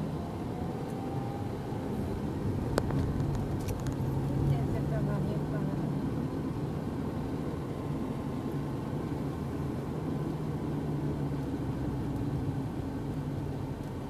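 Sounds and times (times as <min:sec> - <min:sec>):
car engine noise: 0:00.0 - 0:14.0
tyres on road: 0:00.0 - 0:14.0.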